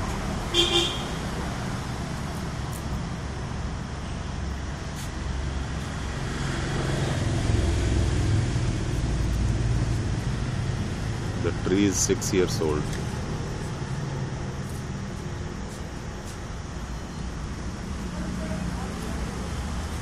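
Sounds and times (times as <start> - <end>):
low engine rumble: 0.0 - 20.0
passing vehicles: 0.0 - 20.0.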